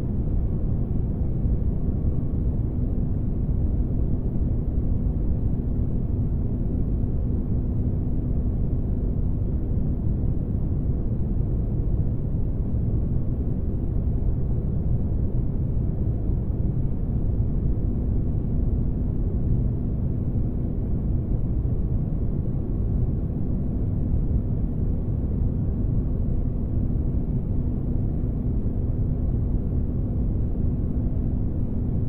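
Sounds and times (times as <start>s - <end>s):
faint constant hum: 0.0s - 32.0s.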